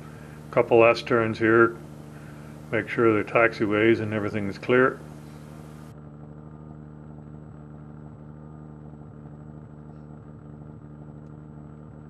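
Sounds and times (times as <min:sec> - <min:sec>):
light aircraft engine and propeller: 0:00.0 - 0:12.0.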